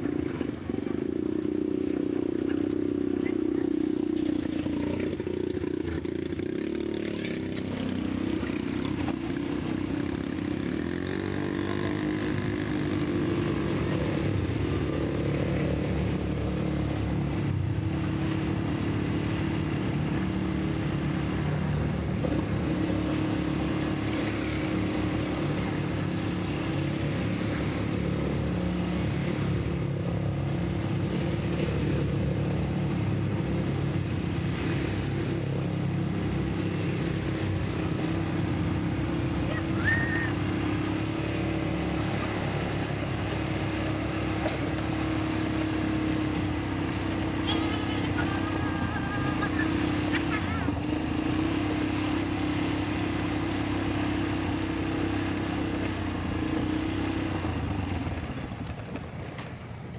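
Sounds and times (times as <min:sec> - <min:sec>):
quad bike engines running: 0:00.0 - 0:59.9.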